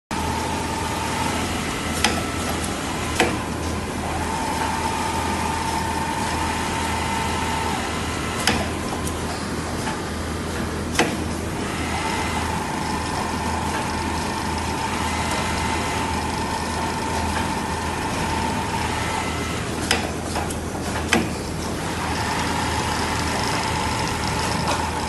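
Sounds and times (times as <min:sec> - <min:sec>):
industrial sewing machine running: 0:00.1 - 0:25.0.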